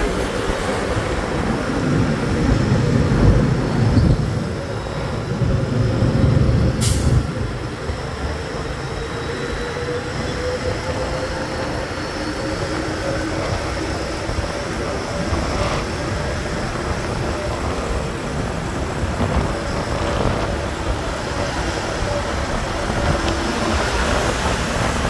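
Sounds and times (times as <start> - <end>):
engine hum rising in pitch: 0.0 - 25.0
wind noise: 0.0 - 25.0.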